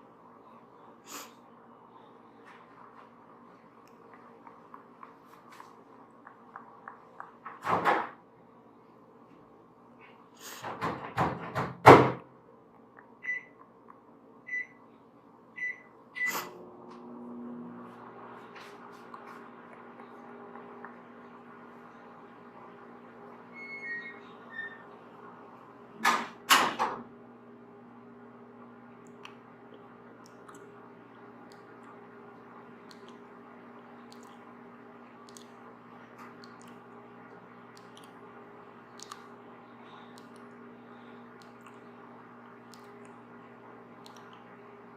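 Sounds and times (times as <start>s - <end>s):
steady low hum: 0.0s - 7.6s, 12.2s - 44.9s.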